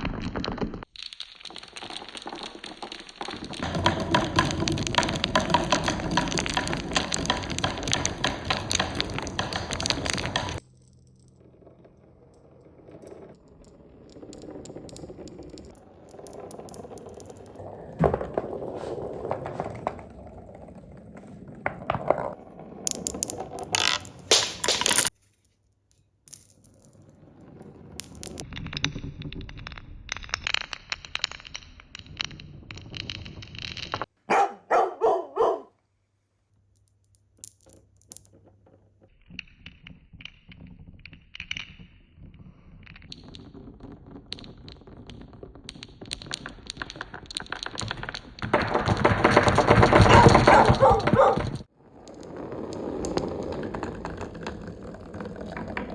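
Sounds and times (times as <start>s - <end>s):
marbles clacking on track: 0.0s - 25.1s, 26.3s - 34.1s, 36.7s - 55.9s
marbles rolling on a marble run: 0.0s - 25.1s, 26.3s - 34.1s, 36.7s - 55.9s.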